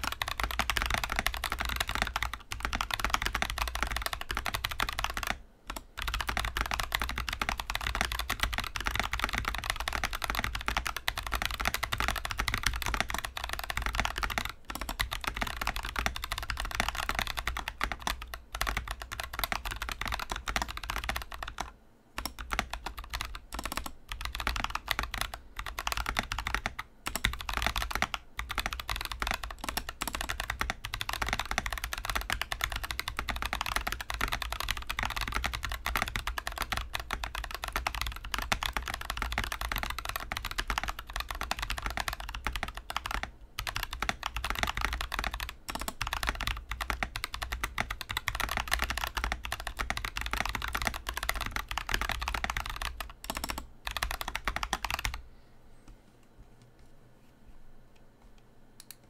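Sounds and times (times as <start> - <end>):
fast typing on mechanical keyboard: 0.0 - 55.2.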